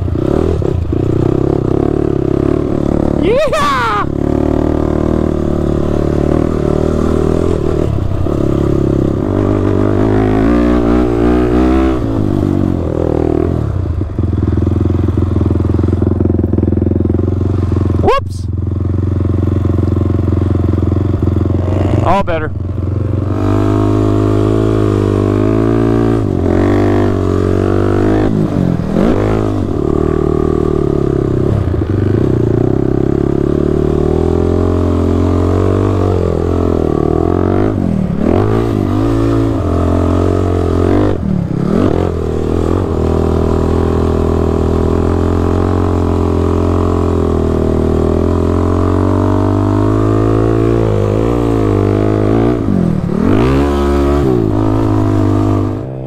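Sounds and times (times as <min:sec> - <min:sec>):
quad engine revving: 0:00.0 - 0:18.4, 0:19.1 - 0:56.0.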